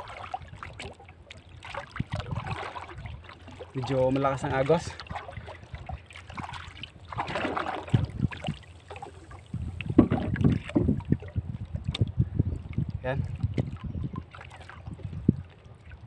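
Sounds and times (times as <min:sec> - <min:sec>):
water sloshing against hull: 0:00.0 - 0:16.0
wind gusting on microphone: 0:01.9 - 0:15.5.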